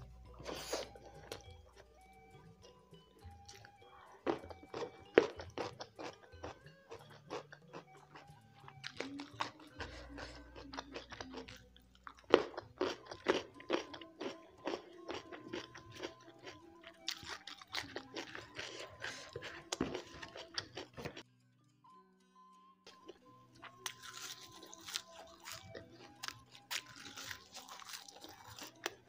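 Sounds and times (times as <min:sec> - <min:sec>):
chewing crunchy food: 0:00.1 - 0:21.2, 0:22.9 - 0:29.0.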